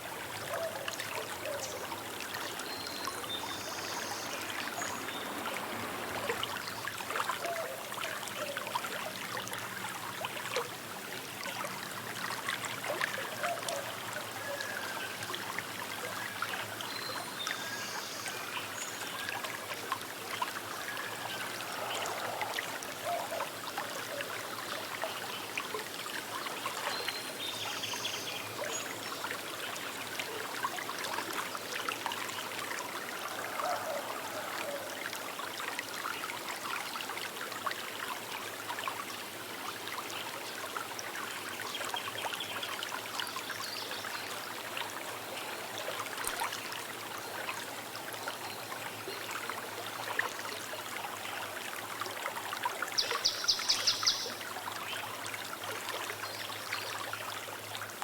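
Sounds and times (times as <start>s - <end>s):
river water trickling: 0.0s - 58.0s.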